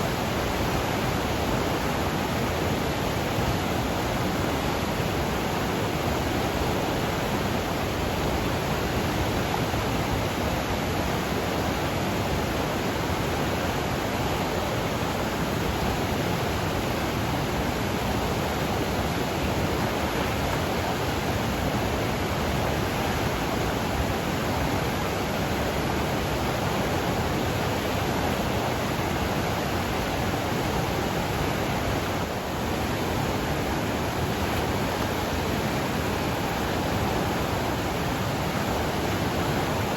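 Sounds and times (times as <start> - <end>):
river rushing roar: 0.0 - 39.9.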